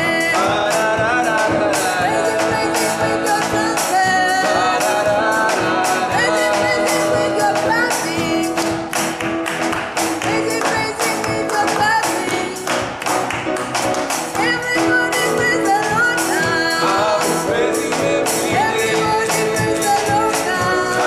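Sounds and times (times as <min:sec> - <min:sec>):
church worship band music: 0:00.0 - 0:21.0.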